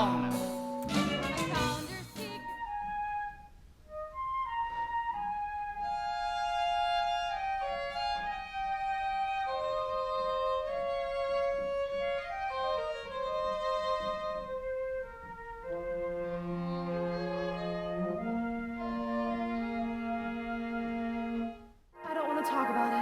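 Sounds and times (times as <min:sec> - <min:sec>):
pit orchestra playing slow music: 0:00.0 - 0:03.1, 0:05.1 - 0:23.0.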